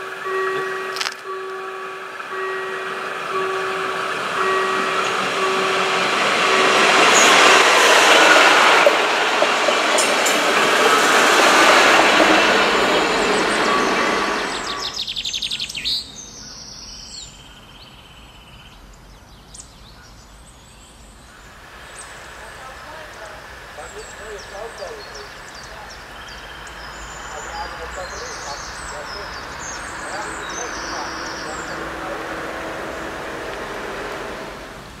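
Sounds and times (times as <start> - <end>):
diesel railcar passing: 0.0 - 19.3, 20.0 - 35.0
birds chirping: 0.0 - 35.0.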